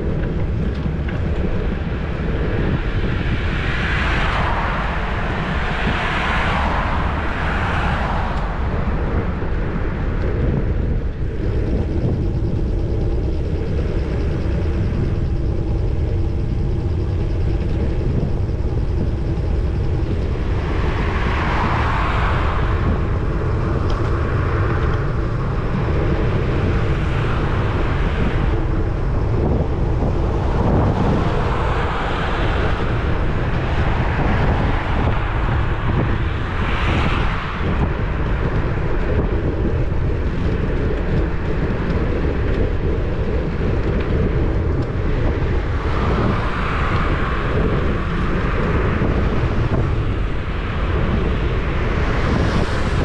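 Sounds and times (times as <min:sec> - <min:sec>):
tyre and road noise: 0:00.0 - 0:53.0
wind rushing over microphone: 0:00.0 - 0:53.0.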